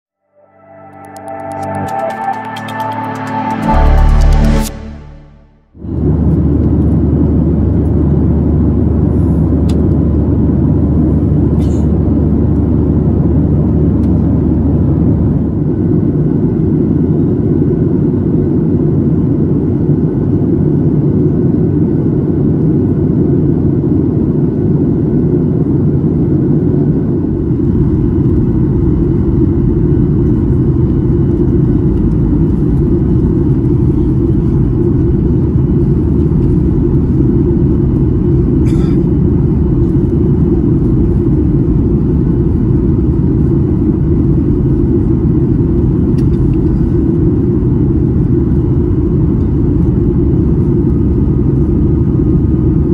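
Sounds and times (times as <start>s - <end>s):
airliner cabin roar: 0.4s - 52.9s.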